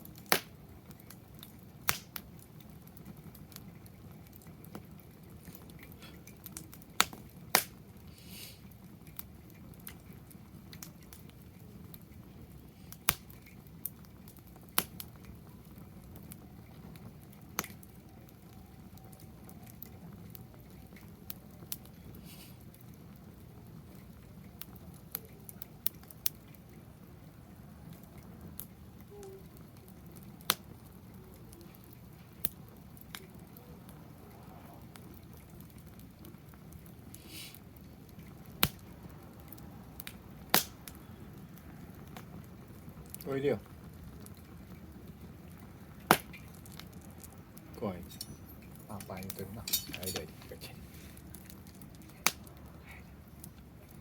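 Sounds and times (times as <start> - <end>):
low background hum: 0.0 - 54.0
wood fire crackling: 0.0 - 54.0.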